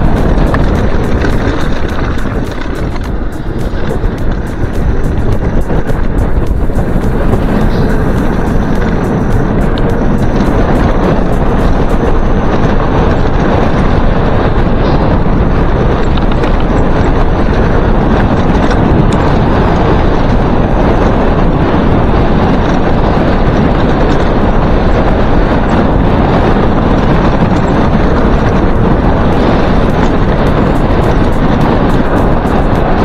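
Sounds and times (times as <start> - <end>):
bike tyres rumbling over gravel: 0.0 - 33.0
wind buffeting microphone: 0.0 - 33.0.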